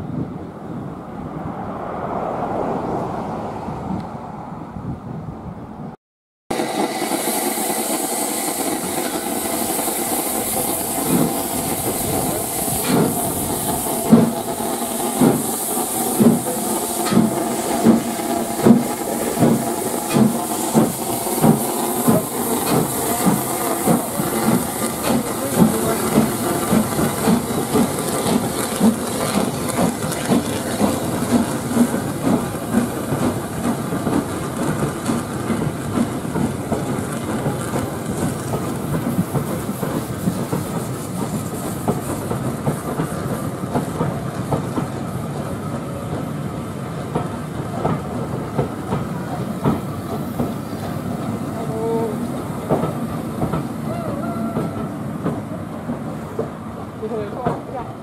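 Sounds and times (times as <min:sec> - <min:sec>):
steam hissing: 0:06.5 - 0:57.8
steam locomotive exhaust beats: 0:06.5 - 0:58.0.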